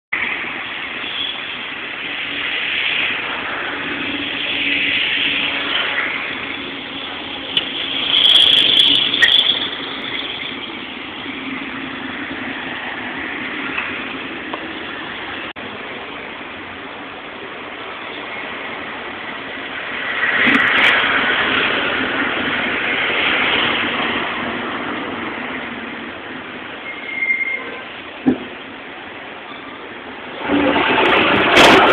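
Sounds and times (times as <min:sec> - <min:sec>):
traffic engine hum: 0:00.1 - 0:31.9
cars passing by: 0:00.2 - 0:31.9.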